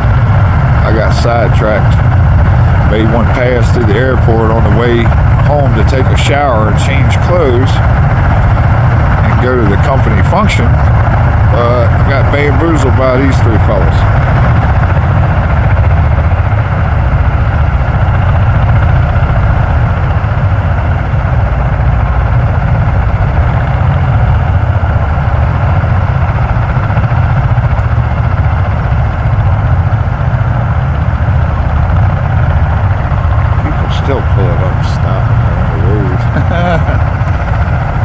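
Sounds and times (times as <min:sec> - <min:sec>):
aircraft rotors throbbing rumble: 0:00.0 - 0:38.0.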